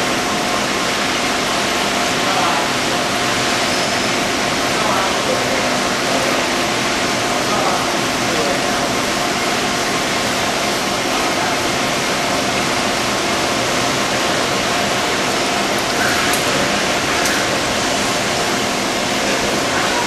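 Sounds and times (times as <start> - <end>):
faint machine hum: 0.0 - 20.0
coolant splashing: 0.2 - 20.0.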